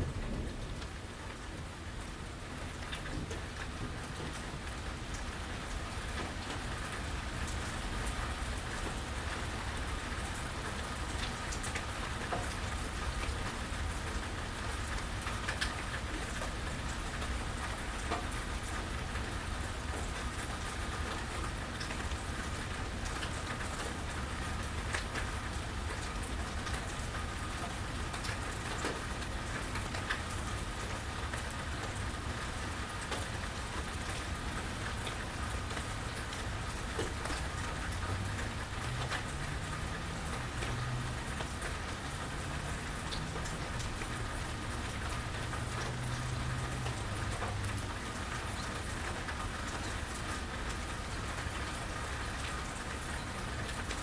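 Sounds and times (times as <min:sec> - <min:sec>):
raindrops ticking close by: 0:00.0 - 0:54.0
steady rainfall hiss: 0:00.0 - 0:54.0.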